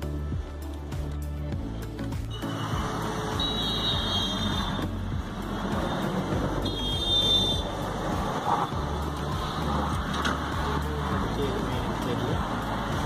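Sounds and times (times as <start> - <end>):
motor vehicle rumble: 0.0 - 13.0.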